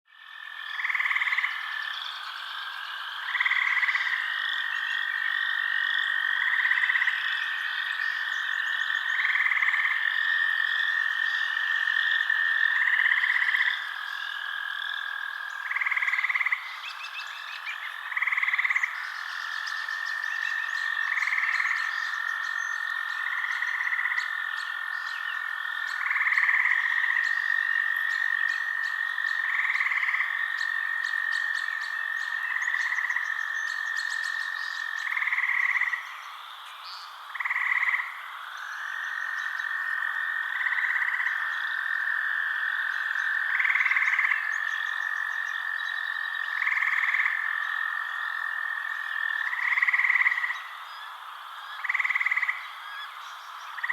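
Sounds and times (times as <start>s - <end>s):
frogs calling: 0.1s - 53.9s.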